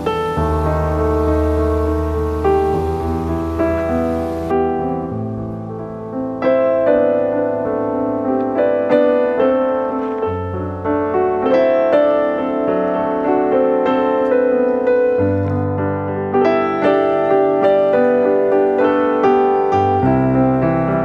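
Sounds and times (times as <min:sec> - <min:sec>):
background piano music: 0:00.0 - 0:21.0.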